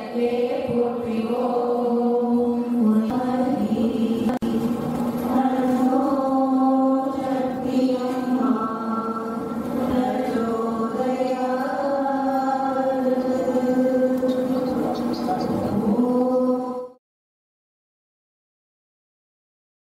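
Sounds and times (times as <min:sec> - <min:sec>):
group chanting a prayer in unison: 0:00.0 - 0:04.6, 0:05.2 - 0:17.0.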